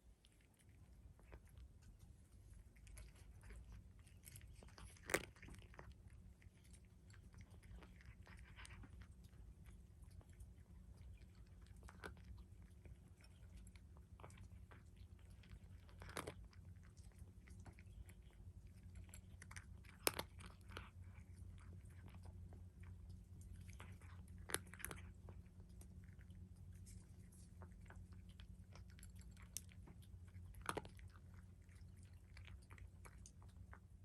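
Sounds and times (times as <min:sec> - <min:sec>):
cat crunching food: 0:00.0 - 0:34.0.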